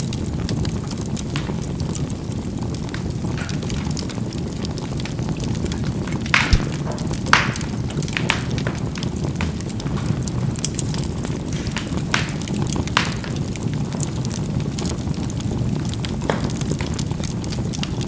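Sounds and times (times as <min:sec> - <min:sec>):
charcoal popping and crackling: 0:00.0 - 0:18.0
low rush of burning charcoal: 0:00.0 - 0:18.0.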